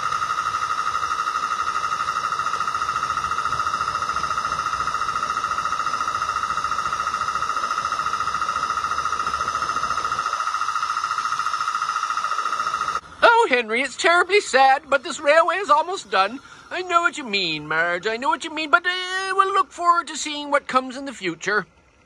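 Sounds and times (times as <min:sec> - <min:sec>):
steam locomotive exhaust beats: 0:00.0 - 0:17.8.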